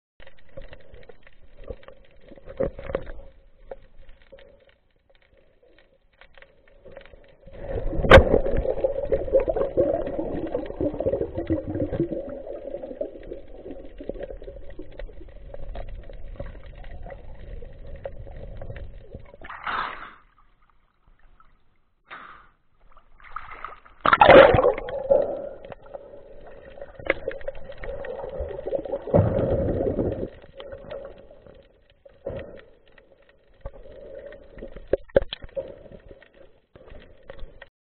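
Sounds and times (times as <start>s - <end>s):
muffled underwater water sloshing: 0.2s - 22.0s, 22.7s - 37.7s.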